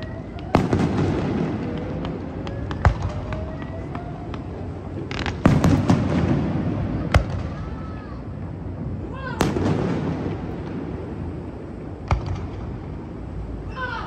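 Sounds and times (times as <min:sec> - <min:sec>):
fireworks crackling: 0:00.0 - 0:13.7.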